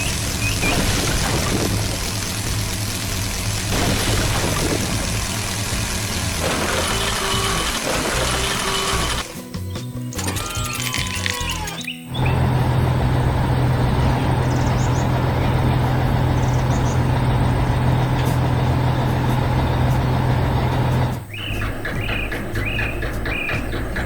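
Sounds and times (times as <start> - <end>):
heavy machine engine humming: 0.0 - 9.4, 11.5 - 24.0.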